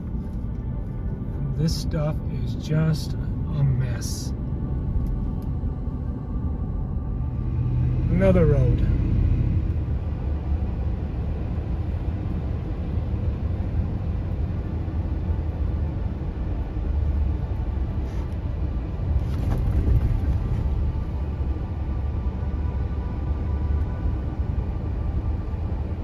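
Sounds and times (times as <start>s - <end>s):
vehicle engine and tyre noise: 0.0s - 26.0s.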